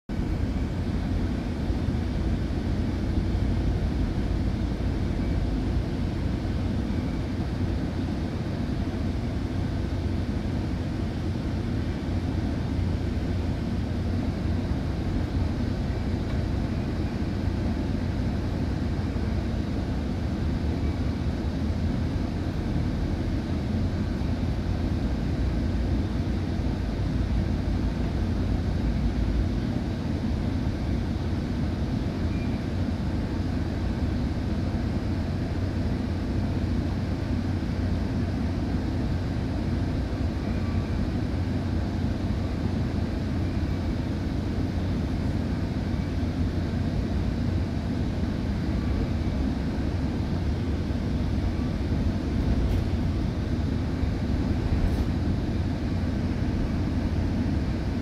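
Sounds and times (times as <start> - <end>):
train rumbling: 0.1 - 58.0.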